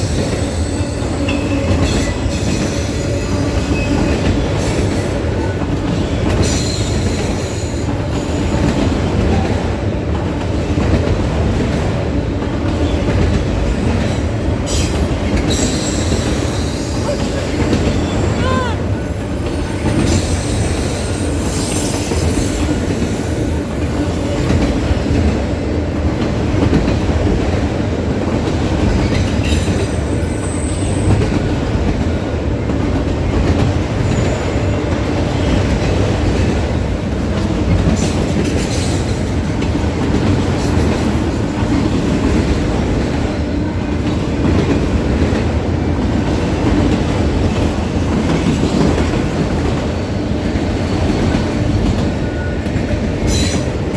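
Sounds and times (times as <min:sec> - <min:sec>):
train wheels clacking over rails: 0:00.0 - 0:53.9.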